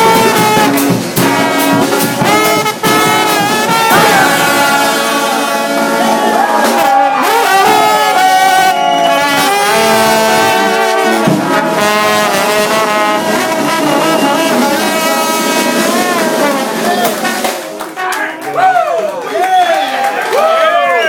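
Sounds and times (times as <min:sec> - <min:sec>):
brass band playing: 0:00.0 - 0:18.5.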